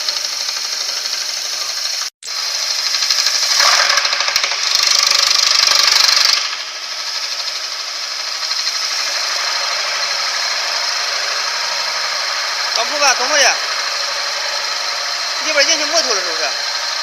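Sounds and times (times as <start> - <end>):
wood lathe cutting wood: 0.0 - 17.0.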